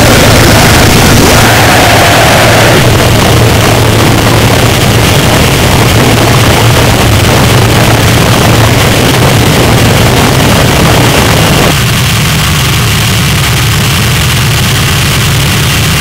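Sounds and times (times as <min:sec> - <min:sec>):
harsh distorted noise music: 0:00.0 - 0:16.0
steady low hum: 0:00.0 - 0:16.0.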